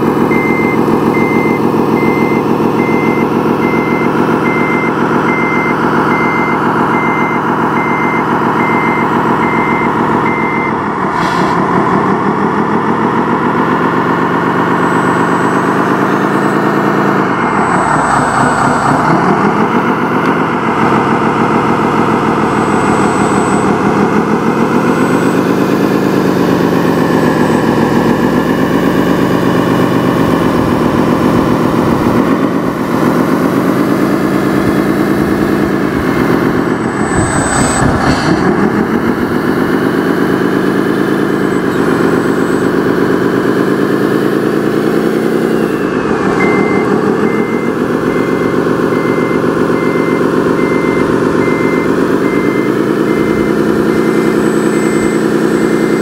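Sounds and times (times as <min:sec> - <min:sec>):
reversing beeper: 0:00.0 - 0:56.0
toy bulldozer engine revving: 0:00.0 - 0:56.0.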